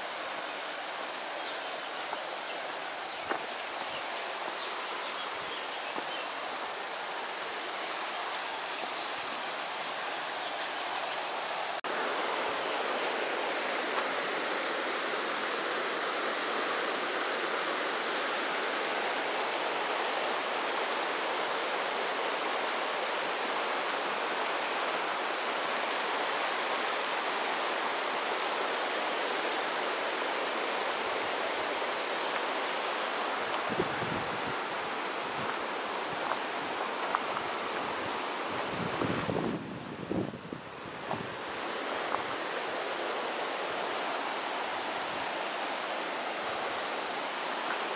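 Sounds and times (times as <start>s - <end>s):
river rushing over stones: 0.0s - 47.9s.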